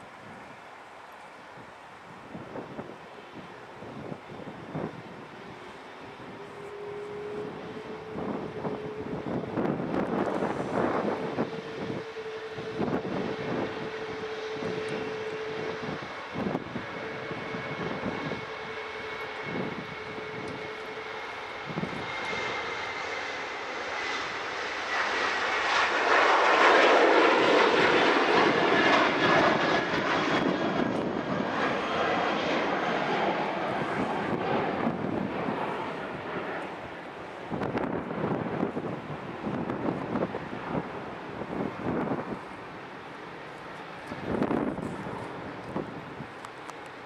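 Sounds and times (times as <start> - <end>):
jet engine whine: 0.0 - 47.0
jet rush of passing aircraft: 0.0 - 47.0.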